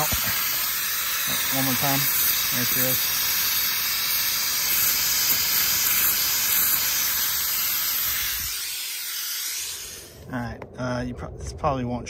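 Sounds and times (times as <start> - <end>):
pressurised gas hissing out: 0.0 - 10.4.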